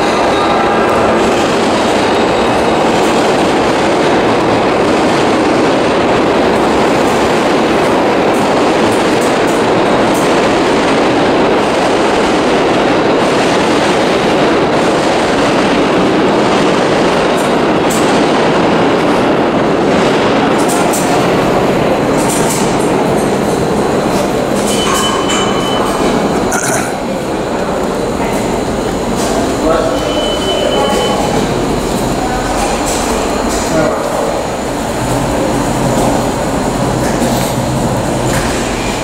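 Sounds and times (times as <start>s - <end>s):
subway train rumbling on track: 0.0s - 39.0s.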